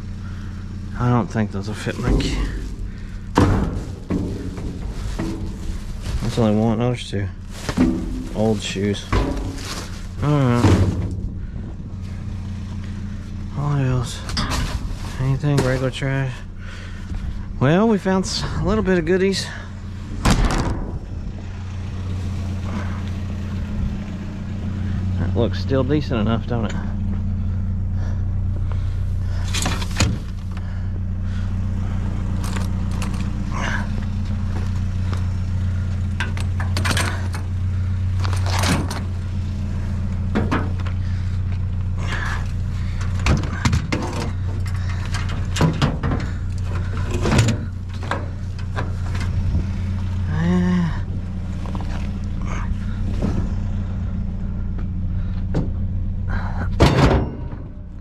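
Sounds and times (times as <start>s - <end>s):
junk clattering and scraping: 0.0s - 58.0s
vehicle engine idling: 0.0s - 58.0s.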